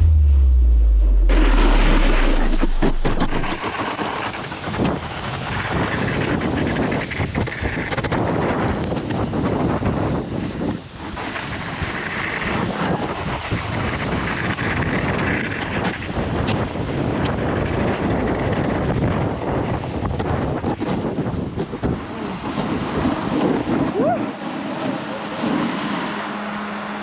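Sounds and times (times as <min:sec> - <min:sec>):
wind buffeting microphone: 0:01.3 - 0:26.5.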